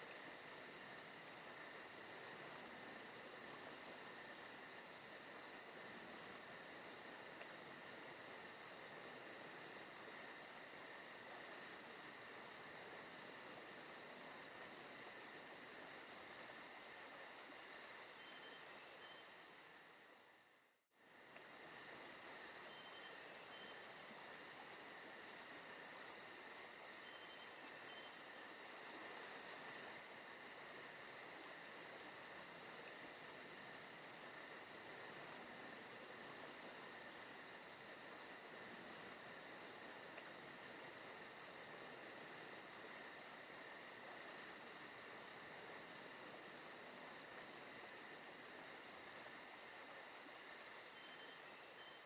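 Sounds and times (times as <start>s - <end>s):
insects chirping: 0.0s - 52.0s.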